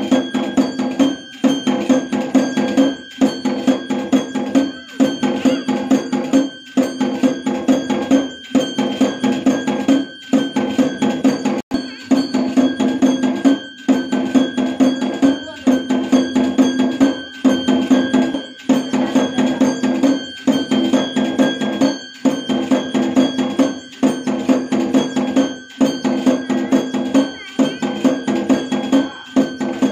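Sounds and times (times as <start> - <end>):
rapid drum beats: 0.0 - 29.9
temple bells clanging: 0.0 - 29.9.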